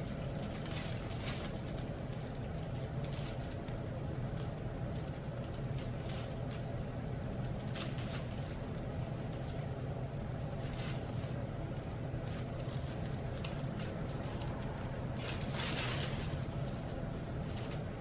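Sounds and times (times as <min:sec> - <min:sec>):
low room hum: 0:00.0 - 0:18.0
puppy rustling in dog bed: 0:00.0 - 0:18.0.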